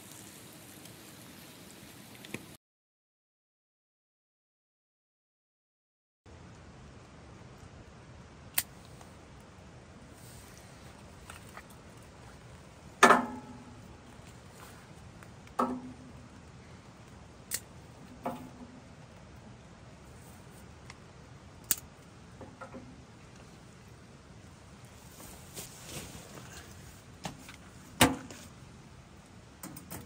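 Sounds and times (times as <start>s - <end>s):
faint steady background noise: 0.0s - 2.6s, 6.3s - 30.0s.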